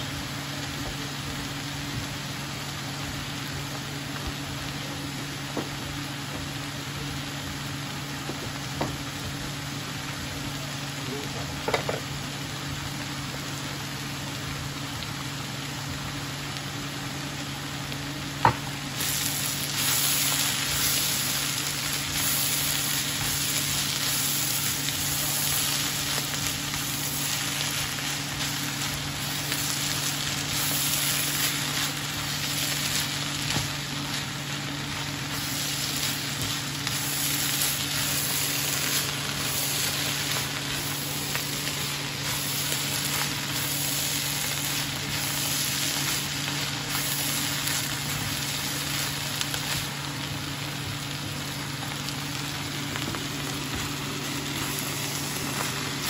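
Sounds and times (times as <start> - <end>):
steady low hum: 0.0 - 56.0
vegetables sizzling in a frying pan: 0.0 - 56.0.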